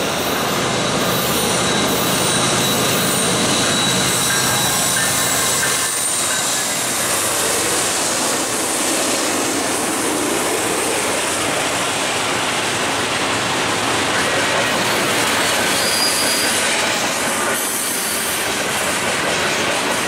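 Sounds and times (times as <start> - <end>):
diesel locomotives passing: 0.0 - 20.0.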